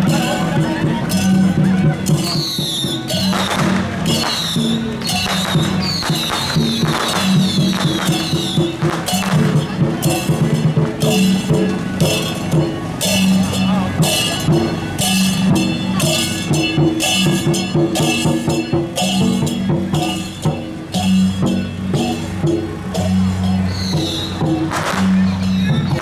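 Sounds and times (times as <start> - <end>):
drums and cymbals beating: 0.0 - 26.0
cymbal crashes: 0.1 - 26.0.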